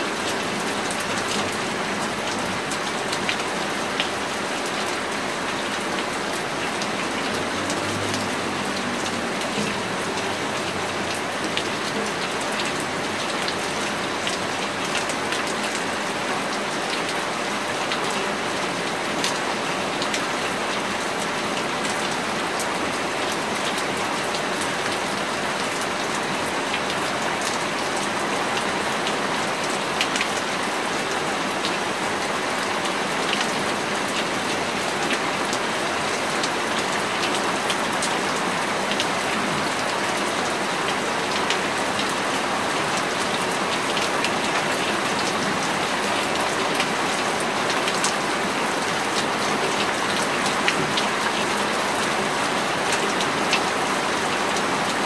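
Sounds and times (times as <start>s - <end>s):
raindrops ticking on surfaces: 0.0s - 55.0s
steady rain hiss: 0.0s - 55.0s.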